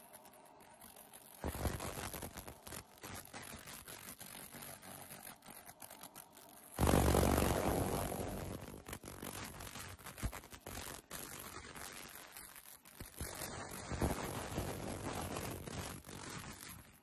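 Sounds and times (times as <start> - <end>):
laser crackling on metal: 0.0 - 17.0.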